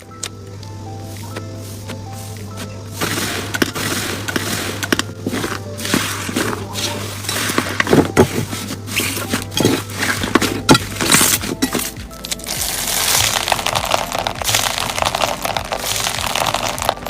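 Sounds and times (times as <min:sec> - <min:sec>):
background music: 0:00.0 - 0:17.0
crunchy slime crackling: 0:00.0 - 0:17.0.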